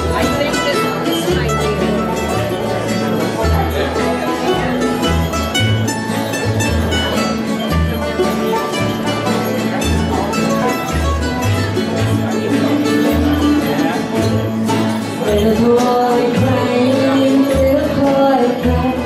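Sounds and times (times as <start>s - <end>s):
acoustic guitars: 0.0s - 19.0s
banjo: 0.0s - 19.0s
fiddle: 0.0s - 19.0s
upright bass walking line: 0.0s - 19.0s.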